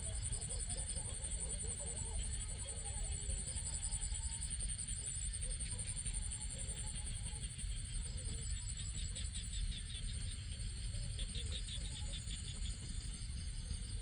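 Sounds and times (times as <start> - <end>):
high pulsing insect trill: 0.0 - 14.0.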